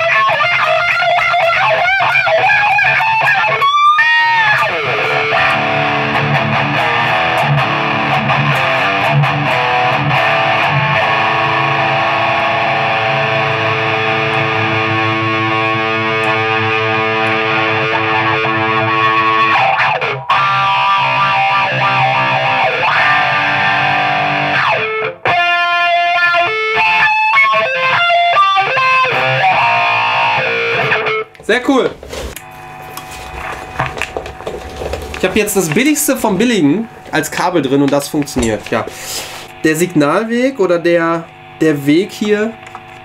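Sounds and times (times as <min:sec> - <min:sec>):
distorted electric guitar with wah: 0:00.0 - 0:31.4, 0:32.4 - 0:43.0.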